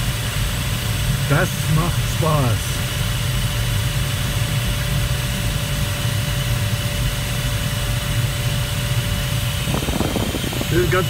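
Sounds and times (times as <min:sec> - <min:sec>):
rushing airflow in glider cockpit: 0:00.0 - 0:11.0.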